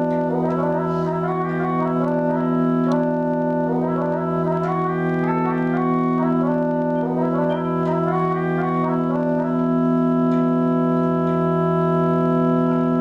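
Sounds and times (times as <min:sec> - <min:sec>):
instrumental music with drone: 0:00.0 - 0:13.0.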